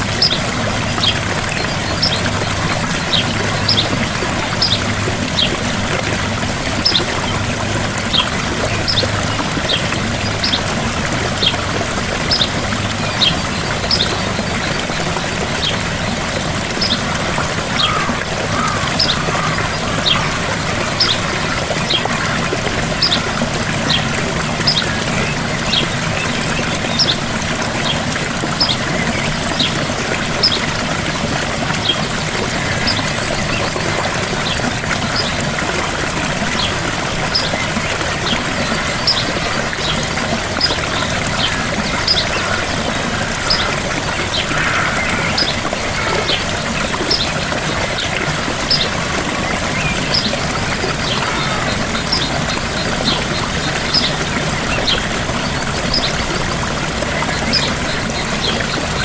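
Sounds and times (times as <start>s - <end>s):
waterfall splashing: 0.0s - 59.0s.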